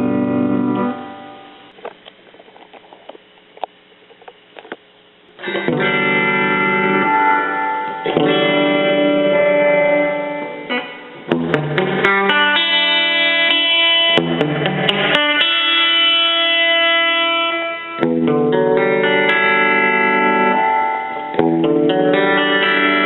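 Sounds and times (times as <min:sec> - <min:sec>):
electric guitar chords ringing: 0:00.0 - 0:01.8, 0:05.4 - 0:23.0.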